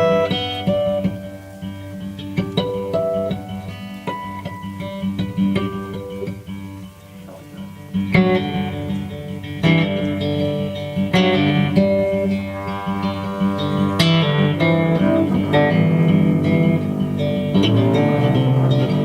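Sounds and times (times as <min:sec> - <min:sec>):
guitar picking: 0:00.0 - 0:19.0
strummed guitar chords: 0:00.0 - 0:19.0.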